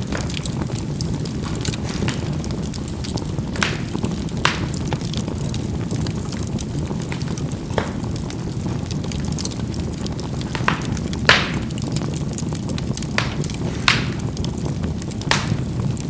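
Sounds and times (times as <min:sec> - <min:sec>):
charcoal fire rumbling and crackling: 0:00.0 - 0:16.0
sharp pops of charcoal bursting: 0:00.0 - 0:16.0.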